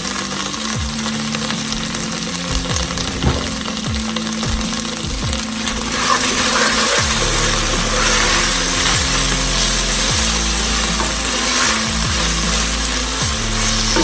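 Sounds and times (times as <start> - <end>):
background music: 0.0 - 14.0
stirring and scraping a pan: 0.0 - 14.0
vegetables sizzling in a pan: 0.0 - 14.0.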